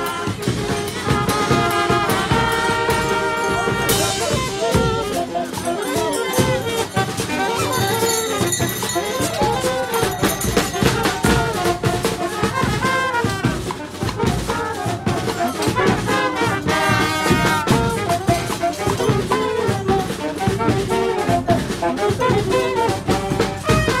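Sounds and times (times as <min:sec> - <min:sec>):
drum beating: 0:00.0 - 0:24.0
trumpets playing melody: 0:00.0 - 0:24.0.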